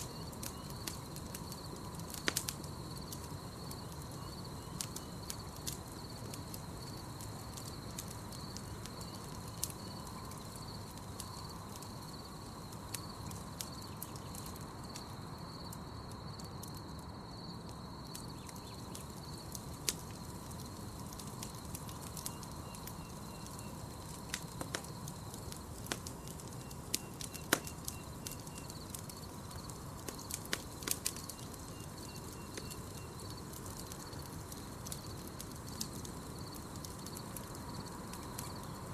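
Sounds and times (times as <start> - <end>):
campfire crackling: 0.0 - 38.9
insects trilling: 0.0 - 38.9.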